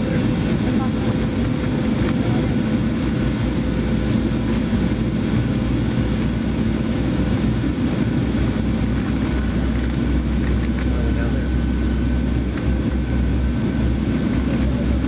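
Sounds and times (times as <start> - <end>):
jet engine roar in cabin: 0.0 - 15.0.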